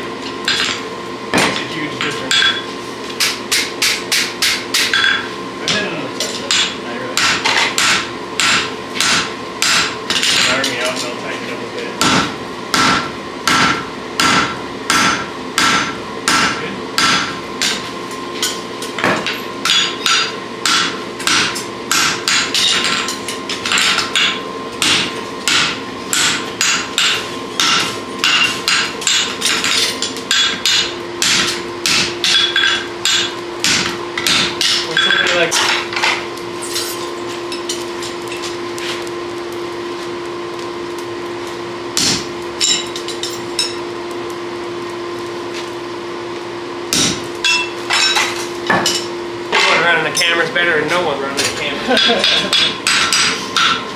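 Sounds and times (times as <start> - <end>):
hammers beating steel on anvil: 0.4 - 11.0, 12.0 - 37.0, 42.0 - 43.8, 46.9 - 50.4, 51.4 - 53.9.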